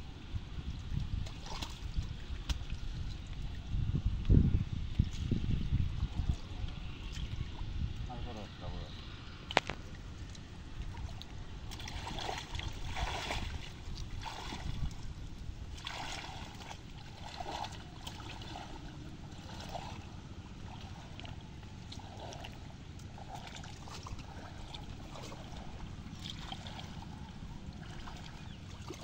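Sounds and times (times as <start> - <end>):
steady low rumble: 0.0 - 29.0
water sloshing and splashing: 0.2 - 29.0.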